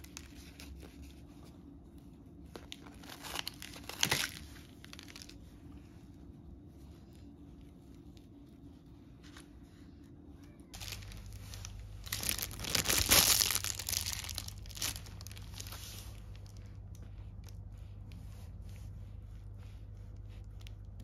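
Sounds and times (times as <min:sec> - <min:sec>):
crinkling handling noise: 0:00.0 - 0:18.9
low hum: 0:00.0 - 0:21.0.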